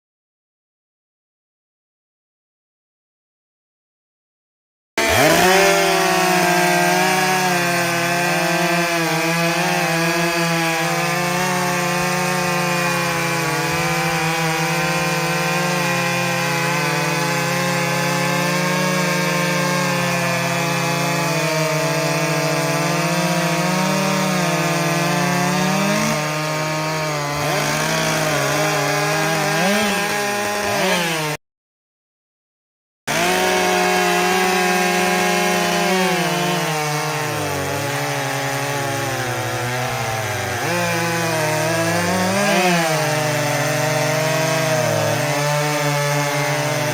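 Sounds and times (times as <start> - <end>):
chainsaw cutting wood: 5.0 - 31.4, 33.1 - 46.9.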